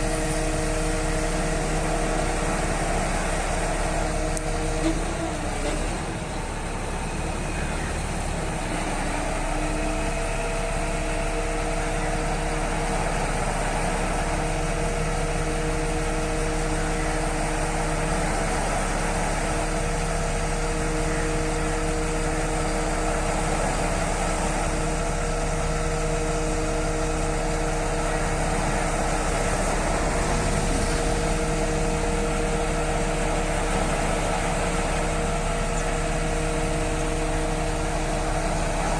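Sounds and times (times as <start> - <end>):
crane engine running: 0.0 - 38.9
steady whine: 0.0 - 38.9.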